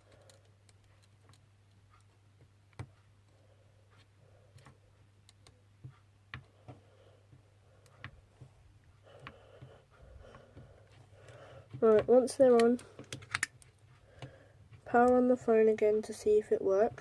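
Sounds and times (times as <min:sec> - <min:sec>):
small clicks and taps: 0:00.0 - 0:15.3
steady low hum: 0:00.0 - 0:17.0.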